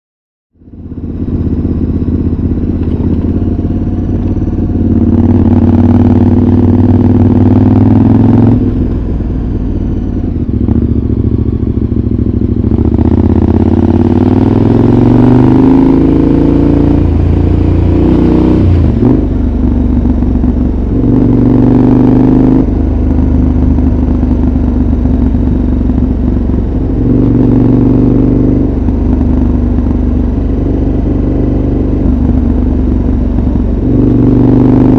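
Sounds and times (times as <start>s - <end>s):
motorcycle engine revving: 0.6s - 34.9s.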